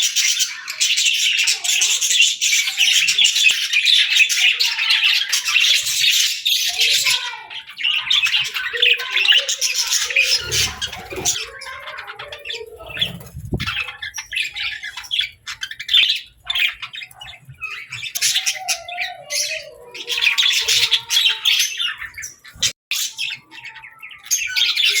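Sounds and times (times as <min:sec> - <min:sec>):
budgerigars chattering and chirping: 0:00.0 - 0:25.0.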